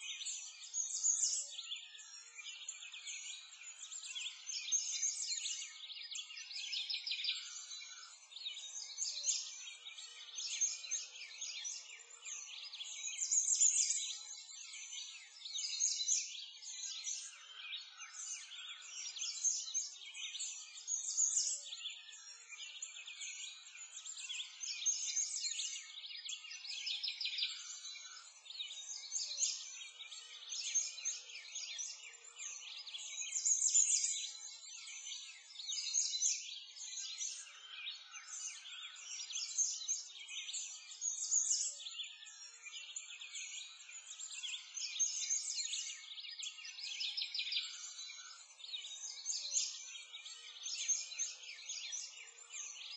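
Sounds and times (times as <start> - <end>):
small birds chirping and trilling: 0.0 - 52.9.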